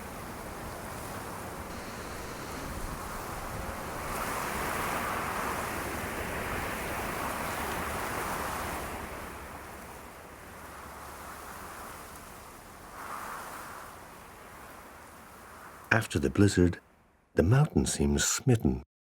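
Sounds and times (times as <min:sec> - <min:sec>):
blizzard wind blowing: 0:00.0 - 0:15.9.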